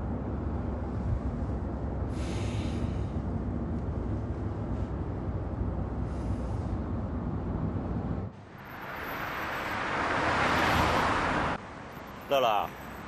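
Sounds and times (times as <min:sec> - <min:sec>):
car cabin road rumble: 0:00.0 - 0:11.6.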